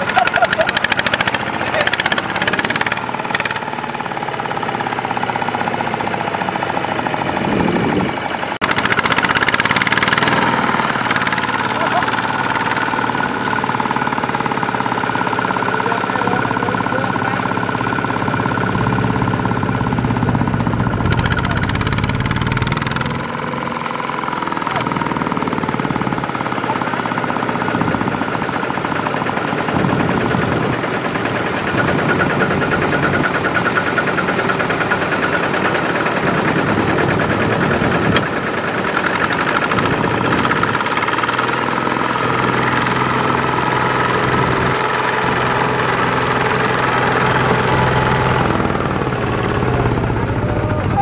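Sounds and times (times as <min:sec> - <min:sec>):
diesel engine knocking: 0:00.0 - 0:51.0.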